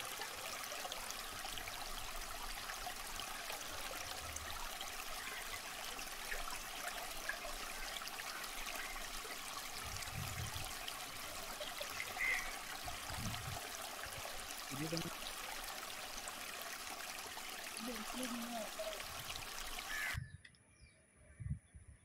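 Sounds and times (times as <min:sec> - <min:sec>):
water babbling in canal: 0:00.0 - 0:20.2.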